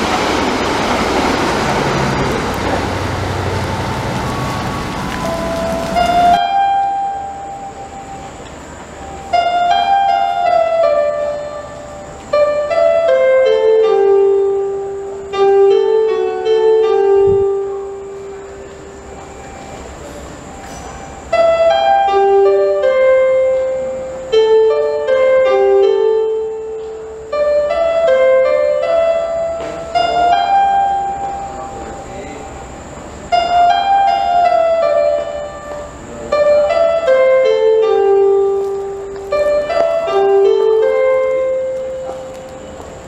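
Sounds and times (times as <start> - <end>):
piano melody of falling notes: 0.0 - 43.0.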